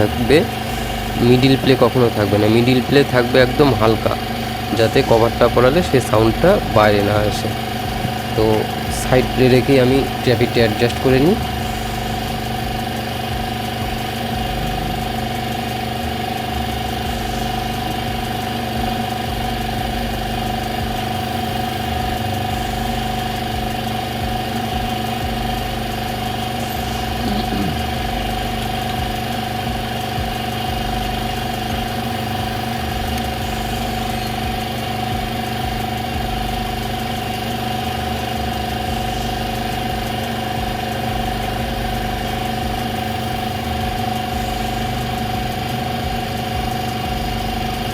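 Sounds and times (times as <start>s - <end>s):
motor humming steadily: 0.0s - 47.9s.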